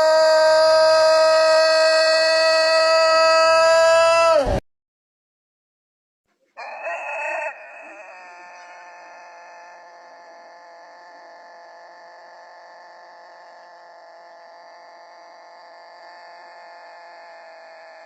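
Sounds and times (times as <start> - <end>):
rooster crowing: 0.0 - 4.6, 6.6 - 18.0.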